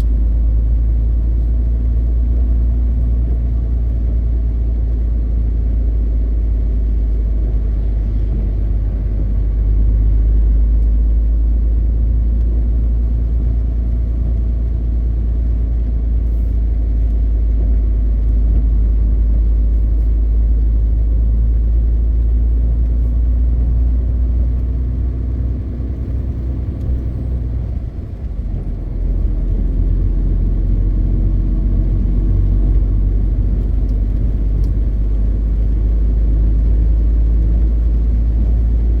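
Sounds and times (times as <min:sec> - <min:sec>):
truck engine and road drone: 0:00.0 - 0:39.0.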